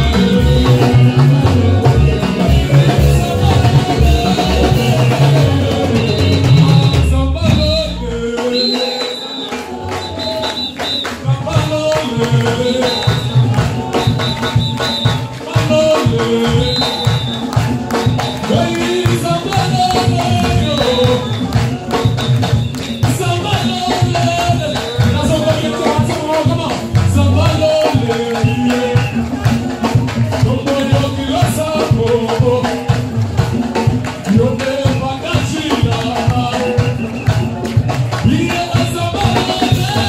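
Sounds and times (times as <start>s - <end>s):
band with keyboard and drums: 0.0s - 40.0s
group of singers: 0.0s - 40.0s.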